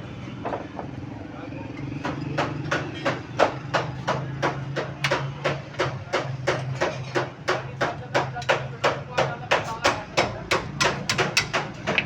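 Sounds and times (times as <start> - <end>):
hammering: 1.9 - 12.0.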